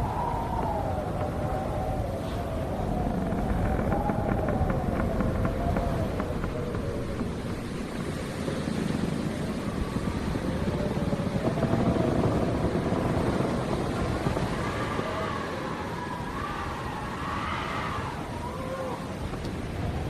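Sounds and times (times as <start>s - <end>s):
howling wind whistle: 0.0s - 20.0s
strong wind gusting: 0.0s - 20.0s.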